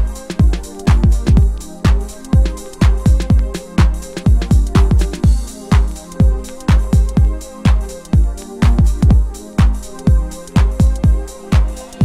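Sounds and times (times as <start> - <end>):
electronic house music: 0.0 - 12.0.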